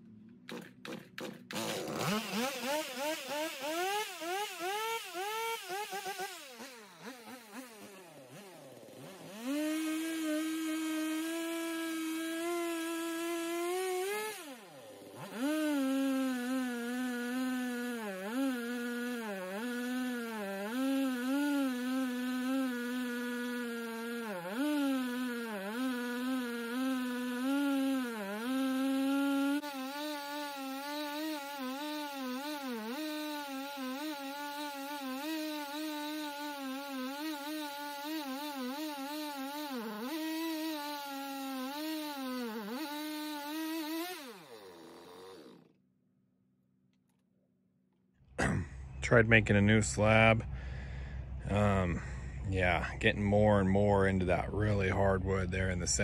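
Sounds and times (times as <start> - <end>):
chainsaw cutting log: 0.0 - 45.8, 48.4 - 56.0.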